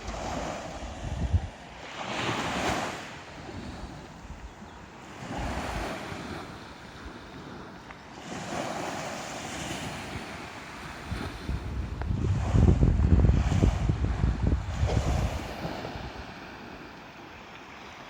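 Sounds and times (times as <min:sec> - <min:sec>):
wind rumble on microphone: 0:00.0 - 0:16.9
ocean waves breaking on beach: 0:00.0 - 0:18.0.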